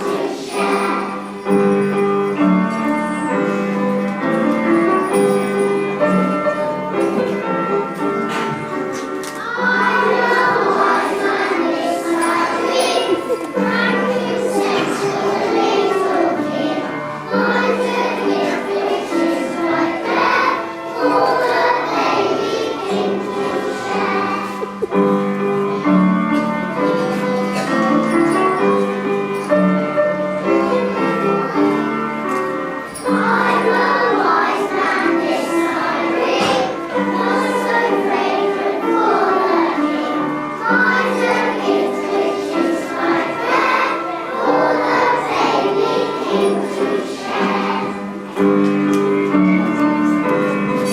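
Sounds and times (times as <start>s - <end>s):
children's choir singing: 0.0s - 50.9s.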